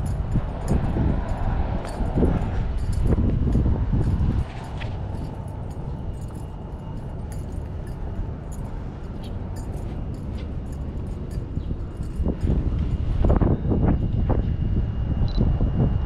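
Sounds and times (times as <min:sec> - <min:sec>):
camera clicking and jingling on strap: 0:00.0 - 0:13.4
low city rumble: 0:00.0 - 0:16.0.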